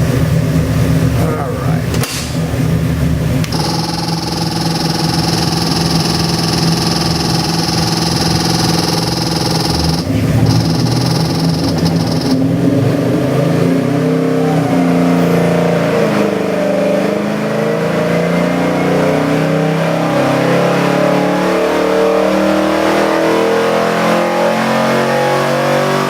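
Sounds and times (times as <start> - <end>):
engine revving on a dyno: 2.6 - 26.0.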